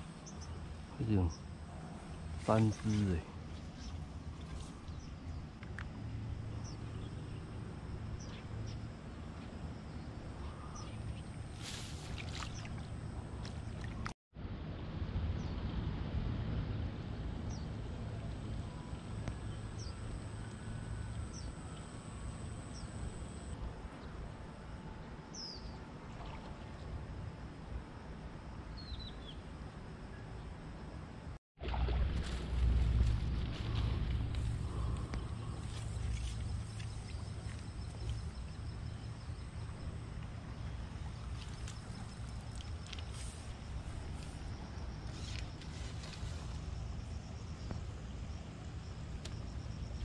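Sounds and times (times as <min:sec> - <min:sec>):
wind rumble on microphone: 0:00.0 - 0:28.0, 0:31.6 - 0:50.0.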